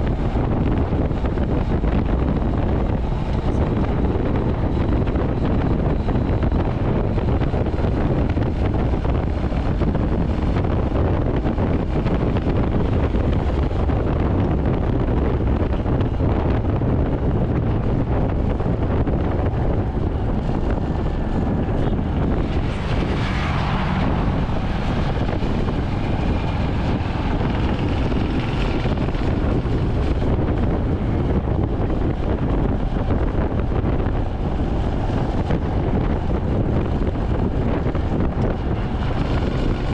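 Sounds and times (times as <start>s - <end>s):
motorcycle engine cruising: 0.0s - 39.9s
wind noise on microphone: 0.0s - 39.9s.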